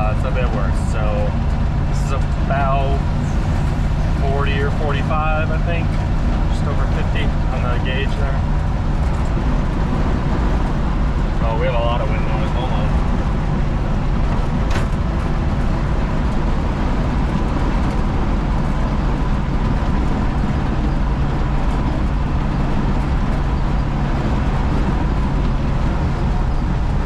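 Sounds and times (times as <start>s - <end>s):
pickup cab engine and road drone: 0.0s - 27.0s
wind noise: 0.0s - 27.0s.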